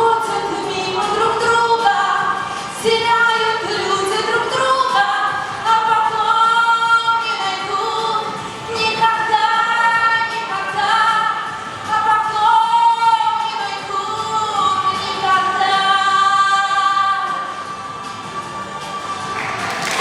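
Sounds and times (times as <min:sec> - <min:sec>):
women singing wordless melody: 0:00.0 - 0:19.7.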